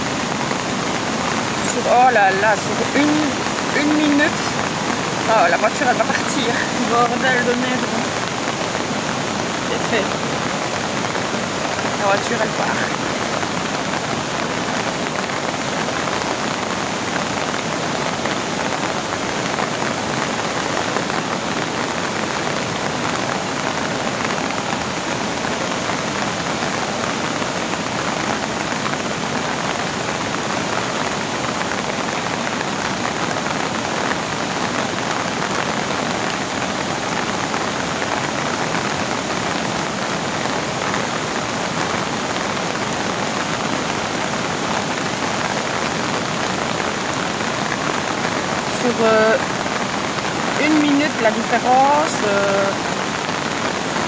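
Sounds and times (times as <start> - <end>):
fast-flowing floodwater: 0.0 - 54.0
heavy downpour hiss: 0.0 - 54.0.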